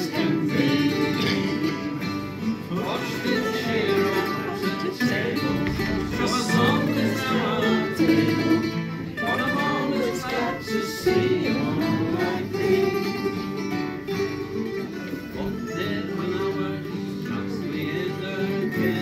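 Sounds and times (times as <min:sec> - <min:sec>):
men singing folk song: 0:00.0 - 0:13.6, 0:15.3 - 0:19.0
plucked string instruments: 0:00.0 - 0:19.0
strummed acoustic guitars: 0:00.0 - 0:19.0.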